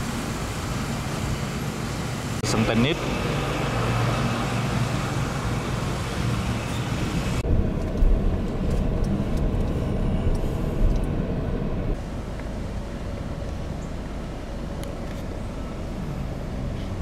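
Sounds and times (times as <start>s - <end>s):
car driving slowly: 0.0s - 17.0s.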